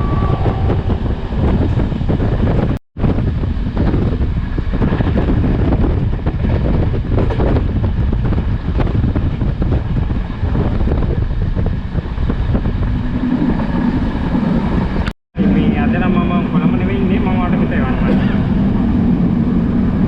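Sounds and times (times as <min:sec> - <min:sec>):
train running with loud rumble: 0:00.0 - 0:20.0
wind buffeting microphone: 0:00.0 - 0:20.0.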